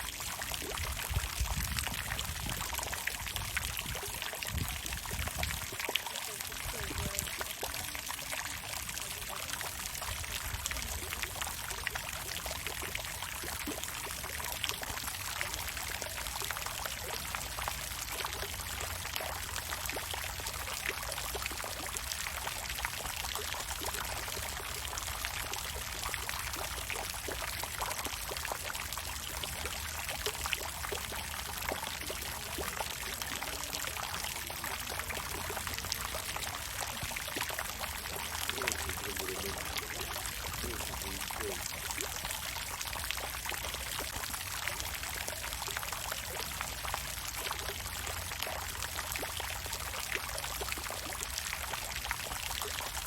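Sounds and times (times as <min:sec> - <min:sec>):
fountain water splashing: 0:00.0 - 0:53.0.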